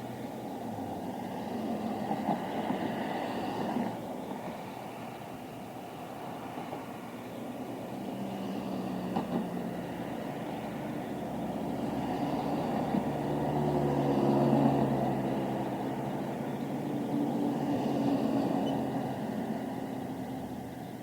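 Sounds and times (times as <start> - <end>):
passing vehicle engine and tyres: 0.0 - 21.0
steady traffic rumble: 0.0 - 21.0.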